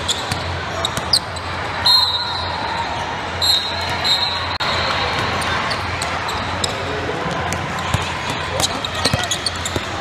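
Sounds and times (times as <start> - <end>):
din of spectators: 0.0 - 10.0
sneakers squeaking: 0.0 - 10.0.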